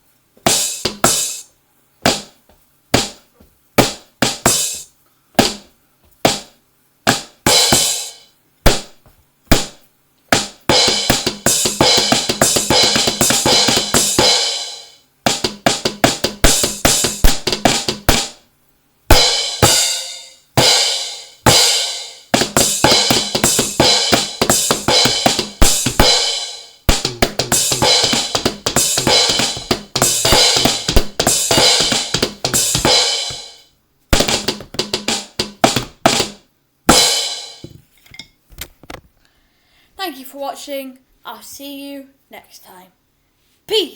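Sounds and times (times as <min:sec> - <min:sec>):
electronic drum kit: 0:00.0 - 0:18.5, 0:19.1 - 0:37.7.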